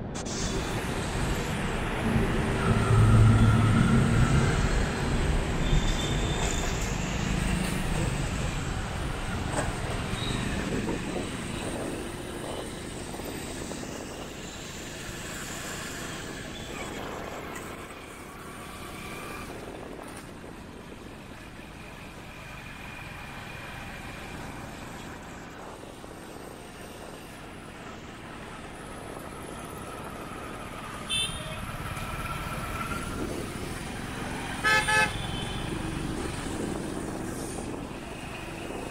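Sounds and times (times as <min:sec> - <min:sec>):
road and traffic noise: 0:00.0 - 0:38.9.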